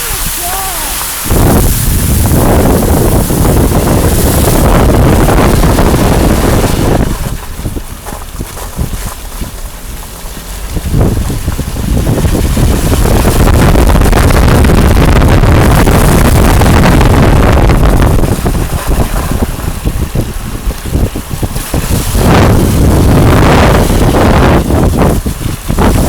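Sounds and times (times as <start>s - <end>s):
wind buffeting microphone: 0.0s - 26.0s
car and tyres rumbling on road: 1.0s - 26.0s.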